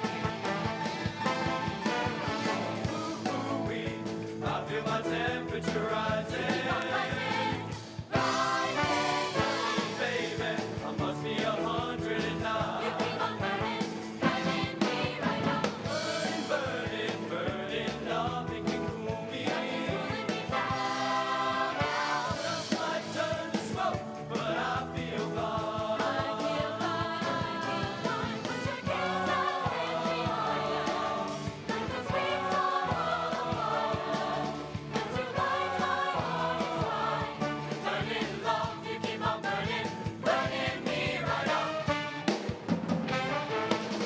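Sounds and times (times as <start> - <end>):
choir singing in harmony: 0.0 - 42.5
backing band: 0.0 - 44.0.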